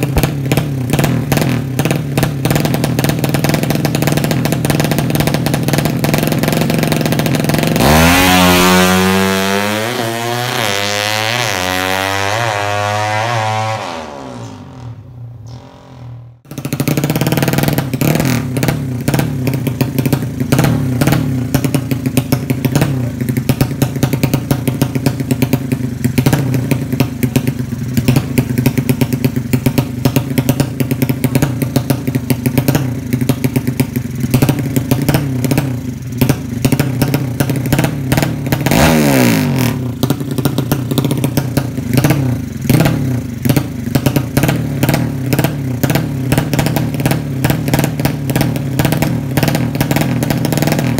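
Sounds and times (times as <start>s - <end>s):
motorcycle engine idling: 0.0s - 11.2s, 14.6s - 50.9s.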